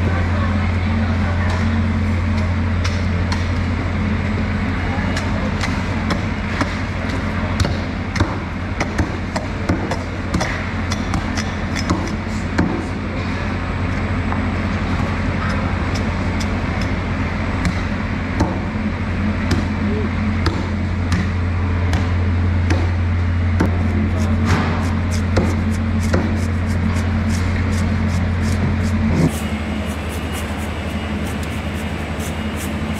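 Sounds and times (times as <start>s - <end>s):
low machine hum: 0.0s - 32.9s.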